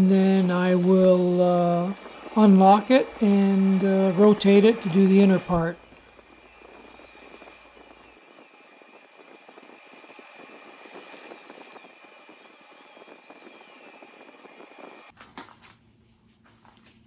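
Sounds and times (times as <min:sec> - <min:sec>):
power drill whining: 0:00.0 - 0:15.1.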